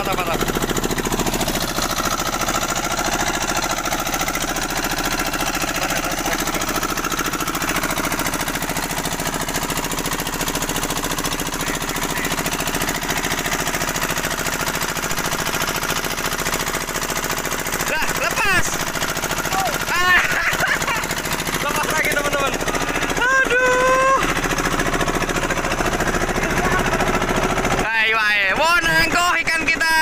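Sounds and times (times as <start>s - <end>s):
boat engine pulsing: 0.0s - 30.0s.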